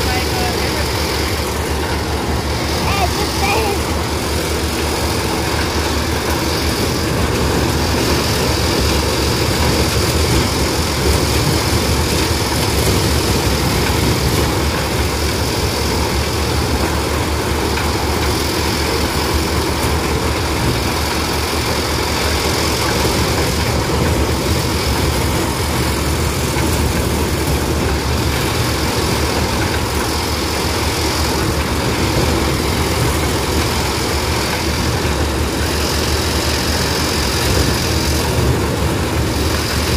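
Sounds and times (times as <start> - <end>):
maize sheller machine running: 0.0 - 39.9.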